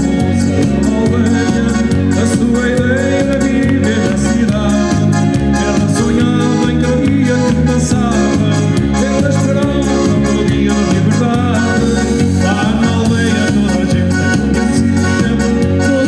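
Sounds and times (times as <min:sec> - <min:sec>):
keyboard playing: 0:00.0 - 0:16.0
live band with driving beat: 0:00.0 - 0:16.0.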